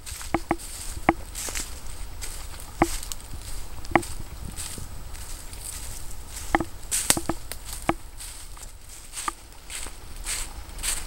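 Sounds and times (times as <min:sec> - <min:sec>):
footsteps on dry leaves: 0:00.0 - 0:11.0.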